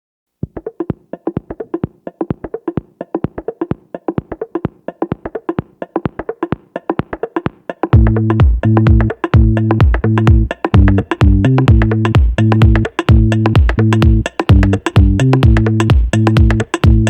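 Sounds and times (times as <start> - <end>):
clicking percussion music: 0.5 - 17.0.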